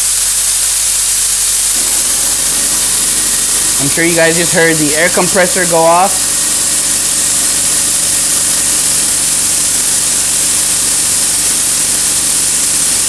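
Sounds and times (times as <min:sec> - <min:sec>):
air compressor humming: 0:00.0 - 0:13.0
air gun hissing: 0:00.0 - 0:13.0.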